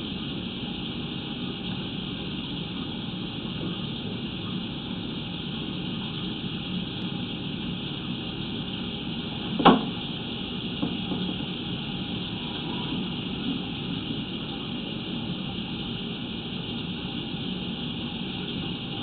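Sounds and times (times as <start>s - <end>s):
steady hiss and low hum: 0.0s - 19.0s.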